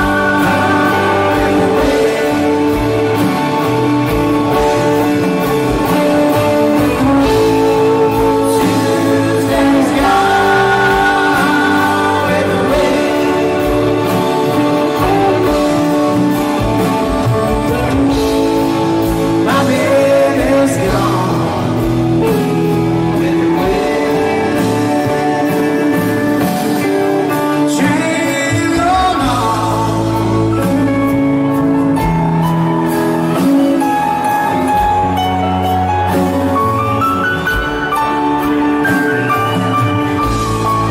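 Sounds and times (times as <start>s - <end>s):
song with singing and band: 0.0s - 40.9s.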